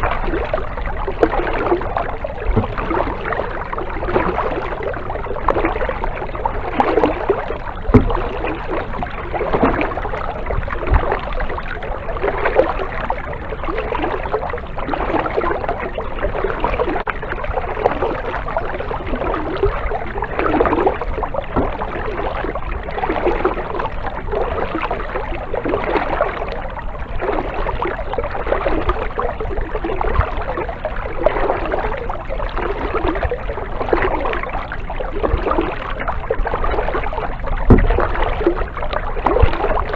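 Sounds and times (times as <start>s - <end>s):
kayak paddle strokes in water: 0.0s - 39.9s.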